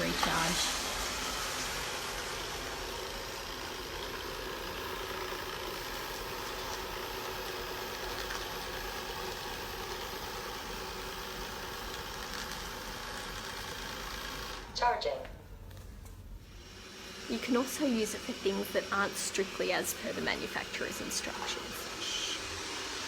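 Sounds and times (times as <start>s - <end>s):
robot vacuum humming: 0.0s - 15.4s, 16.3s - 23.0s.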